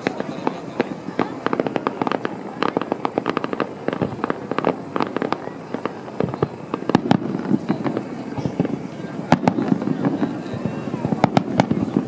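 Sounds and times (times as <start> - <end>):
fireworks pops and crackles: 0.0 - 12.0
loud firework bangs: 0.0 - 12.0.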